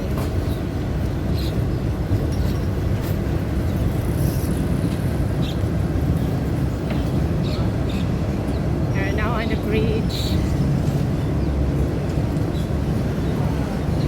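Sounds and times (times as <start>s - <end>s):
train rumbling inside carriage: 0.0s - 14.0s.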